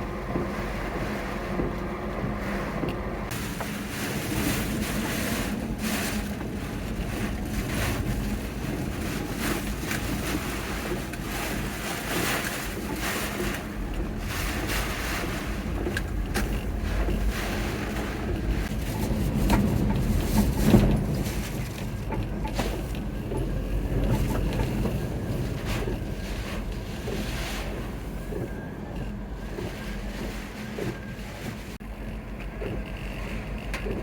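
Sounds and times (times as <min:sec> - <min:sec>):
low motor hum: 0:00.0 - 0:34.0.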